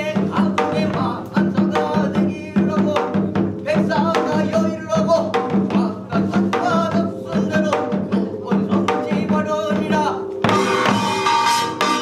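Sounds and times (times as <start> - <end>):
person singing: 0.0 - 11.3
traditional drums beating: 0.0 - 12.0.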